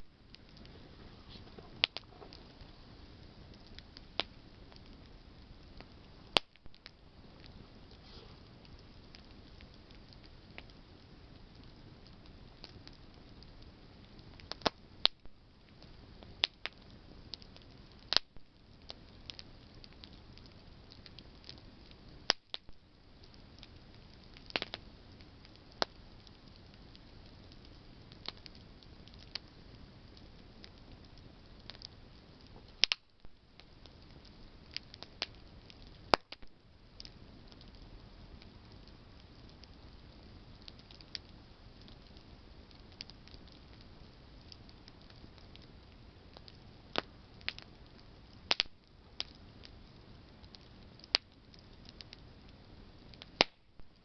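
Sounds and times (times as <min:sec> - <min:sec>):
campfire crackling: 0:00.0 - 0:54.0
low hiss: 0:00.0 - 0:54.0
sharp pops and snaps: 0:01.3 - 0:02.7, 0:03.5 - 0:10.8, 0:14.3 - 0:49.8, 0:50.4 - 0:54.0.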